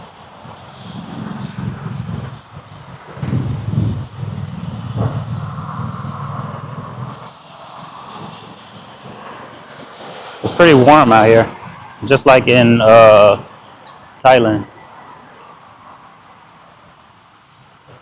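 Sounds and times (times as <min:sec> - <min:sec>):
vehicles passing: 0:00.0 - 0:18.0.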